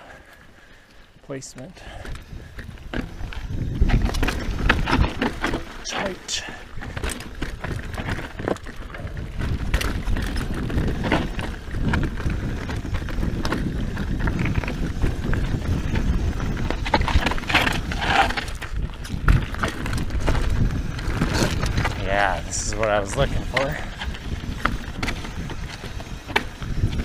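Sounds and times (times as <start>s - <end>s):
bike tyres rolling over stones: 0.0s - 27.0s
bike knocks and rattles: 1.8s - 6.1s, 6.8s - 27.0s
wind rumble on microphone: 1.8s - 27.0s.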